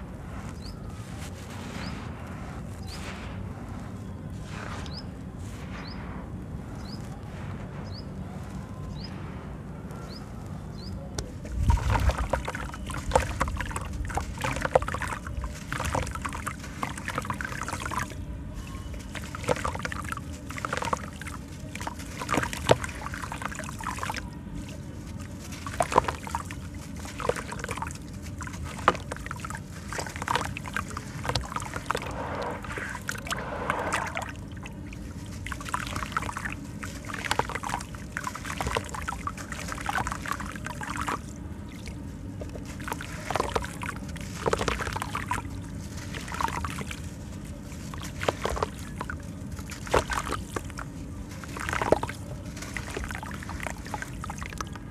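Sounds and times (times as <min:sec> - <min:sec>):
wet sand crumbling by hand: 0:00.0 - 0:09.5, 0:10.1 - 0:54.9
water sloshing and splashing: 0:00.0 - 0:10.3, 0:10.9 - 0:54.9.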